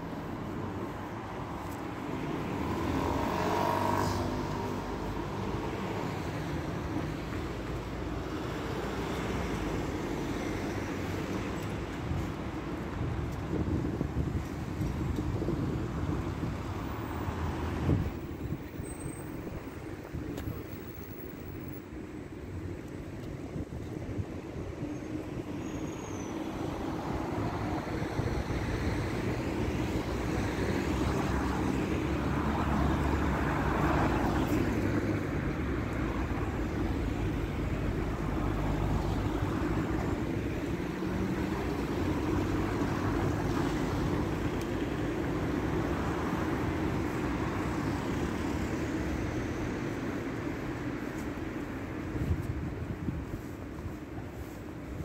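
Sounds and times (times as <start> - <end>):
street traffic rumble: 0.0 - 55.0.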